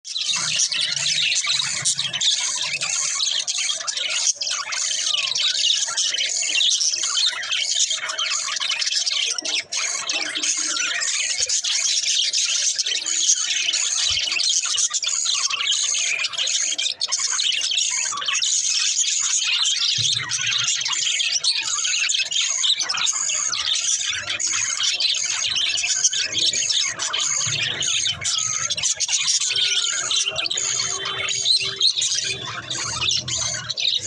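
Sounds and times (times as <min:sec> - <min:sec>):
budgerigars chirping and chattering: 0:00.1 - 0:34.0.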